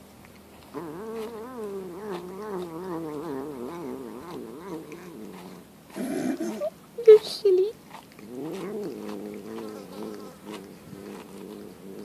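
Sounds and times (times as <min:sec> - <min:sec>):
cat making sing-song vocal sound: 0:00.7 - 0:07.2, 0:08.2 - 0:12.0.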